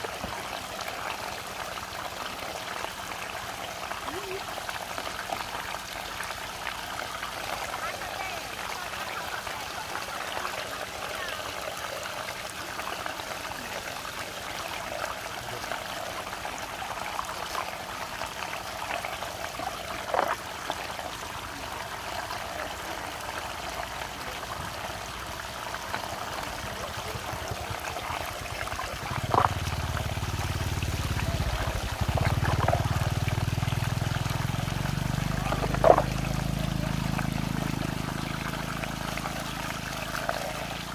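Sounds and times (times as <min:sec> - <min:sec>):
whirlpool water rushing and swirling: 0:00.0 - 0:40.9.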